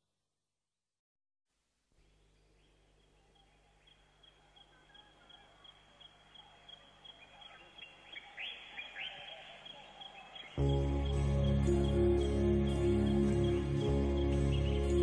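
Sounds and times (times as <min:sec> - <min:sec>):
birds chirping: 0:02.0 - 0:15.0
downward-sweeping bird calls: 0:02.4 - 0:15.0.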